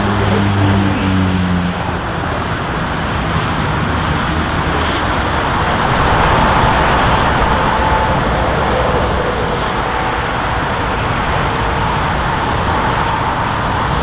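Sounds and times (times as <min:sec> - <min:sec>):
faint engine whine: 0:00.0 - 0:14.0
jet engine rush: 0:00.0 - 0:14.0.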